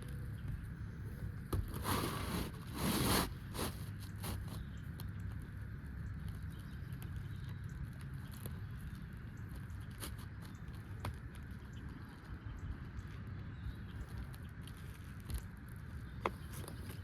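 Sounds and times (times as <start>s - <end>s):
faint ticks and scrapes: 0.0s - 17.0s
low steady rumble: 0.0s - 17.0s.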